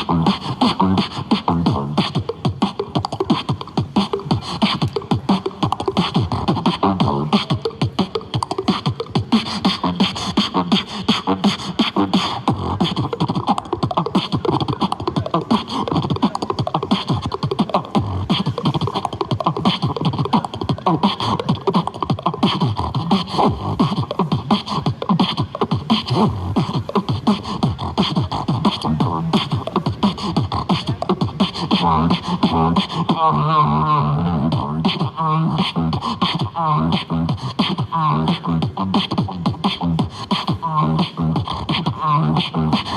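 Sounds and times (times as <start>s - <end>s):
beatboxing: 0.0s - 42.9s
wavering vocal tones: 0.0s - 42.9s.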